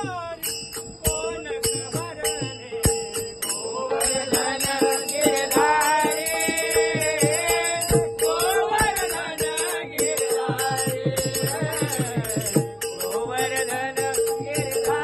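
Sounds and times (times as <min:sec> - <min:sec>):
drum strikes: 0:00.0 - 0:15.0
jingling hand percussion: 0:00.0 - 0:15.0.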